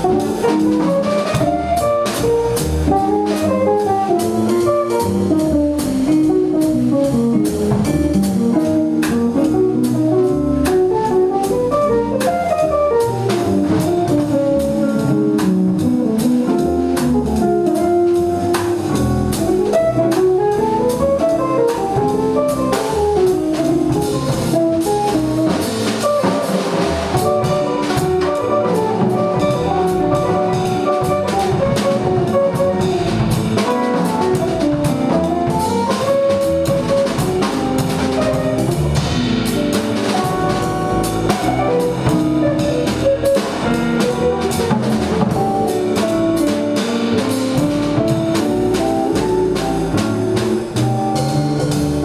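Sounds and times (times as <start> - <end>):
drum kit cymbals: 0.0 - 52.0
jazz guitars: 0.0 - 52.0
upright bass: 0.0 - 52.0.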